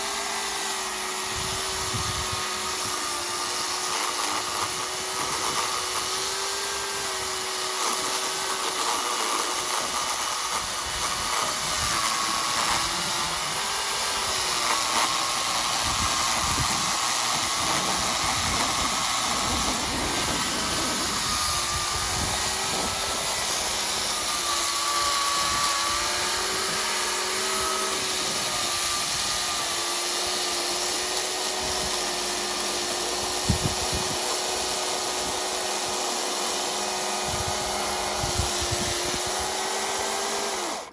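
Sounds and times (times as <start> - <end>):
electric chainsaw cutting wood: 0.0 - 40.9.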